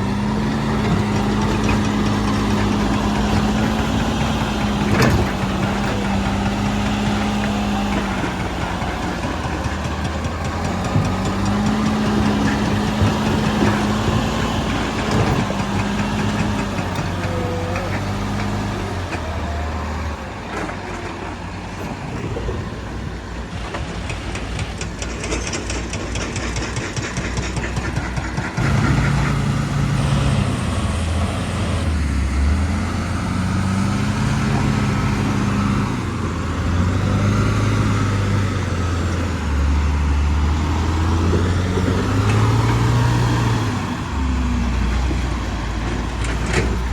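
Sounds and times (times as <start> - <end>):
heavy diesel engine revving: 0.0 - 46.9.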